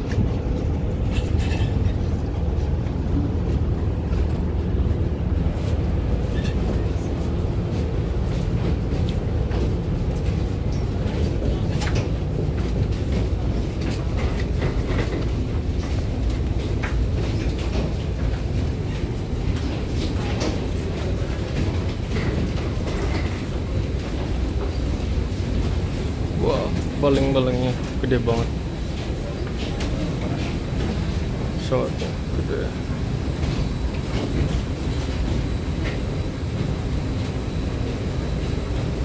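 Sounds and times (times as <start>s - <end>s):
footsteps on jet bridge floor: 2.4s - 39.0s.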